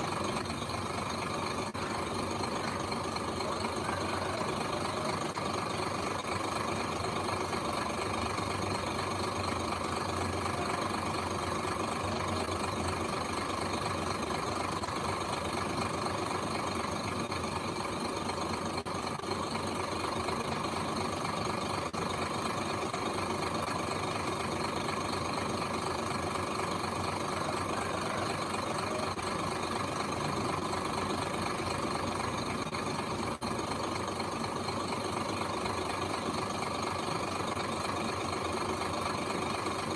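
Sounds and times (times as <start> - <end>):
construction machine engine running: 0.0 - 39.9.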